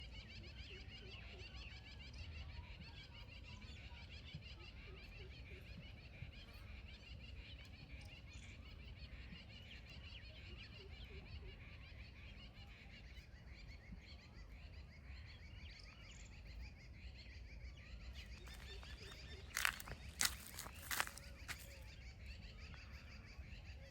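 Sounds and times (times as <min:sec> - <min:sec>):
small birds chirping: 0:00.7 - 0:23.9.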